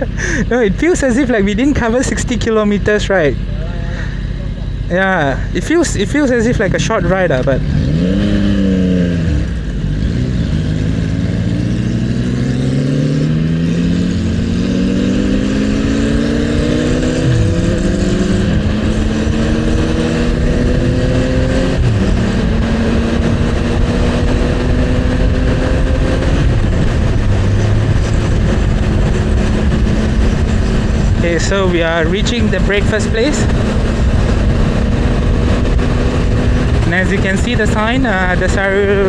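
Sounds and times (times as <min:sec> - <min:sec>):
wind and road noise: 0:00.0 - 0:39.0
motorcycle engine revving through gears: 0:04.7 - 0:39.0.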